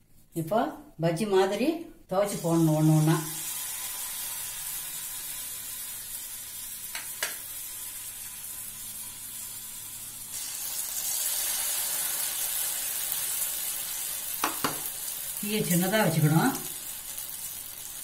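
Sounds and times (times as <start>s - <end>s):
food deep-frying in oil: 2.3s - 18.0s.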